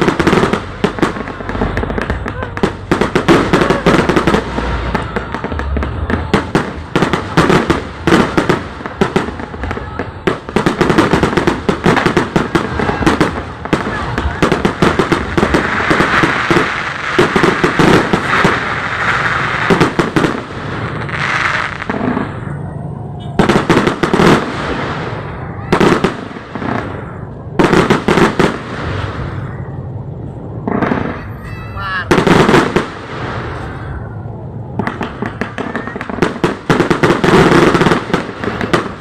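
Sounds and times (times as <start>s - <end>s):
crowd voices: 0.0s - 39.0s
fireworks bangs and crackles: 0.0s - 39.0s.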